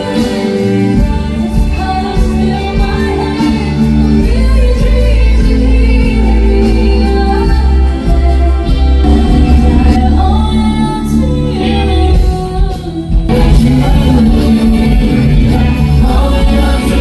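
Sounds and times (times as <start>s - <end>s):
low bass notes: 0.0s - 17.0s
person singing: 0.0s - 17.0s.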